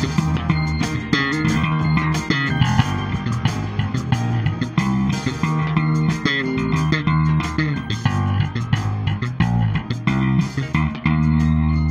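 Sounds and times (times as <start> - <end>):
electric bass guitar plucked: 0.0 - 11.9
recorded band track with guitars: 0.0 - 11.9.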